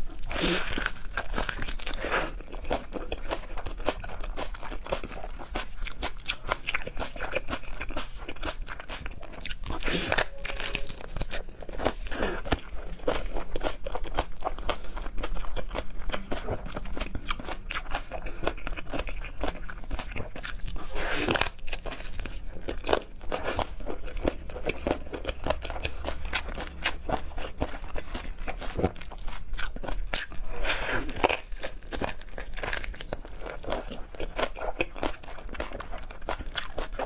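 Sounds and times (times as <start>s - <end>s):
person chewing crunchy food: 0.0s - 37.0s.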